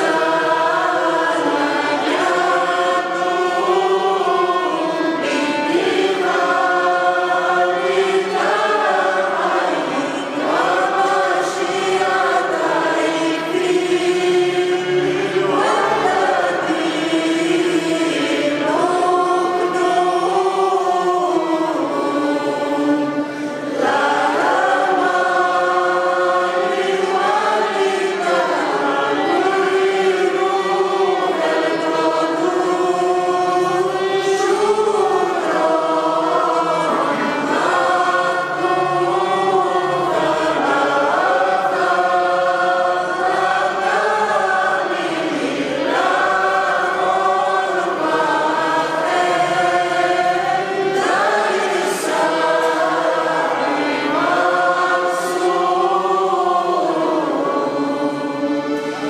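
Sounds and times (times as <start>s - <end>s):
choir singing a hymn: 0.0s - 59.0s
violin: 0.0s - 59.0s.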